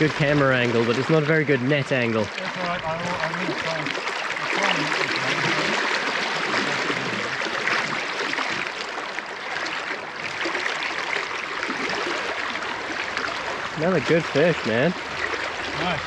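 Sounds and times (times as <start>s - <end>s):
river water running over stones: 0.0s - 16.0s.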